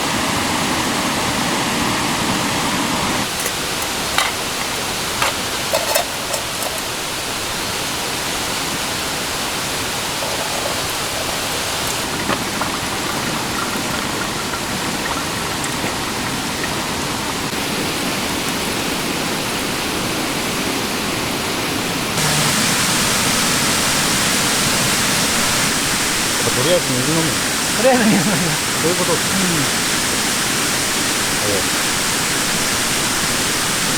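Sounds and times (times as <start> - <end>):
stream running over rocks: 0.0 - 33.9.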